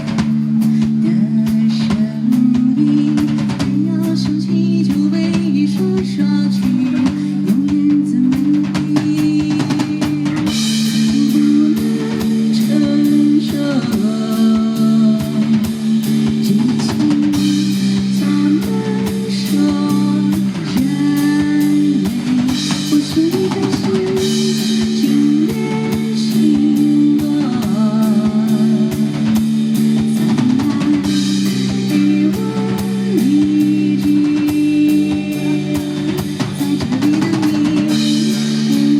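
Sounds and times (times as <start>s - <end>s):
live pop band playing: 0.0s - 38.9s
person singing: 0.0s - 38.9s.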